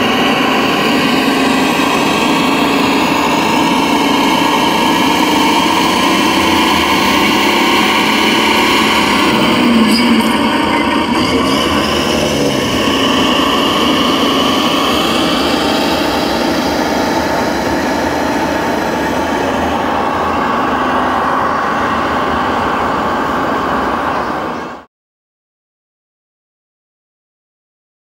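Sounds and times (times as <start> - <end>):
toy truck motor running: 0.0 - 24.6
busy hall hum: 0.0 - 24.9.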